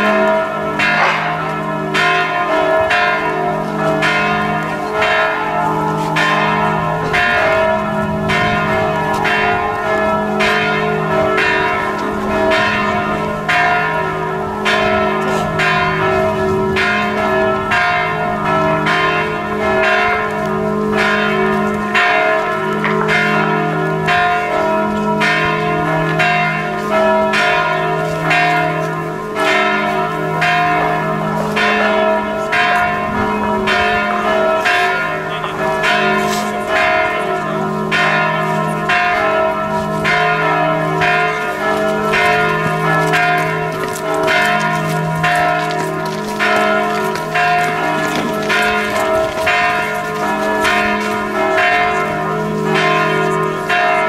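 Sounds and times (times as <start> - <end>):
church bells tolling: 0.0 - 54.0.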